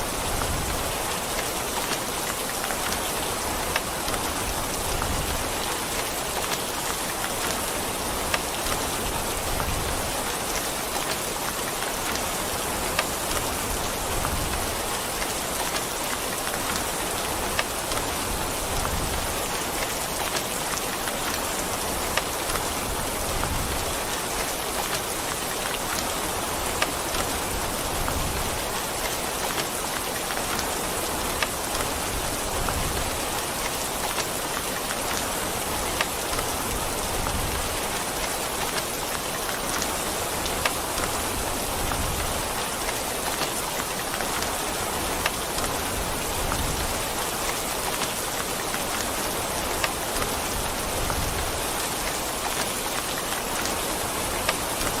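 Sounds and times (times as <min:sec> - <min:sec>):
rain hissing on a surface: 0:00.0 - 0:55.0.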